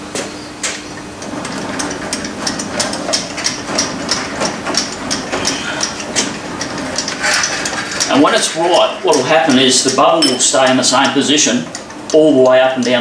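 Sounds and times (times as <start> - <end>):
lathe handwheel clicking: 1.2 - 13.0.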